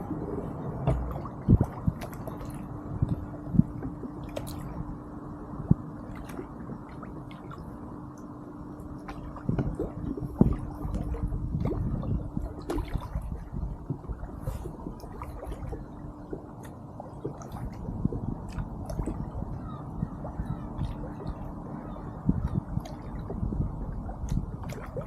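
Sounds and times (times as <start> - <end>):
faint steady hum: 0.0 - 25.0
paddle dipping and dripping in water: 0.0 - 25.0.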